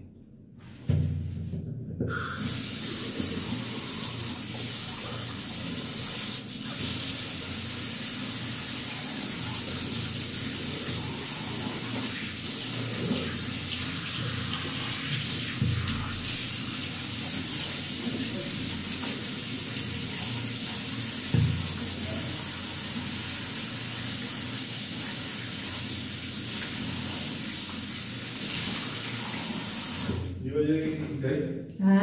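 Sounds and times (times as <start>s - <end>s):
tap water running into basin: 2.1s - 30.4s.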